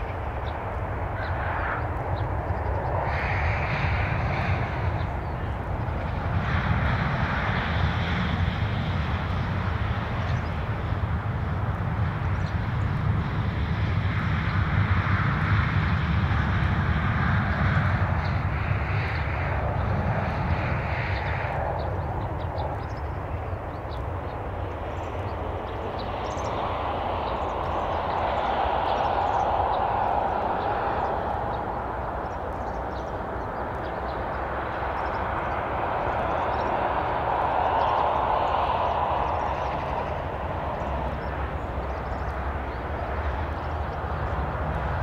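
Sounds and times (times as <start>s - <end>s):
distant aircraft engine rumble: 0.0s - 45.0s.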